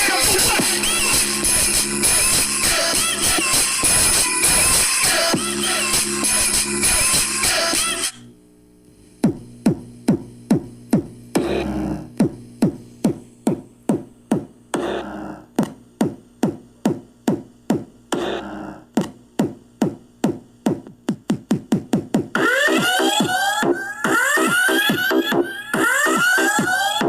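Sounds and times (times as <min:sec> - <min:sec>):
electronic dance music: 0:00.0 - 0:08.2, 0:09.2 - 0:16.2, 0:17.7 - 0:27.0.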